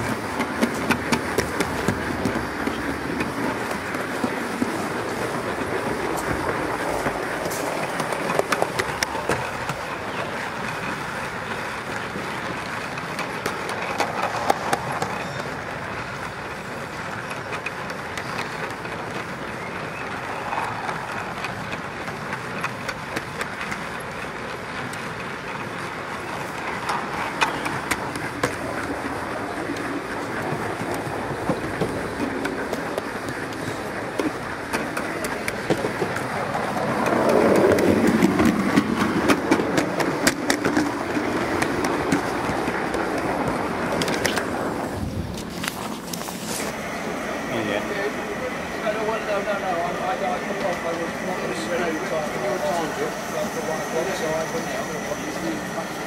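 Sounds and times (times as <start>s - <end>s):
clicks over rail joints: 0.0s - 46.8s
model train wheels rattling: 0.0s - 46.8s.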